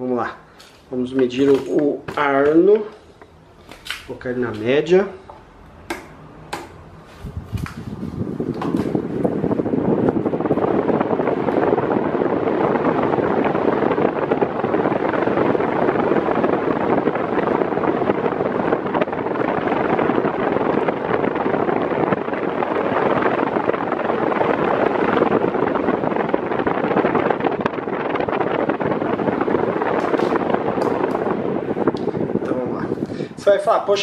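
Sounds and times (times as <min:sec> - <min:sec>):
fan rushing air: 0:00.0 - 0:34.0.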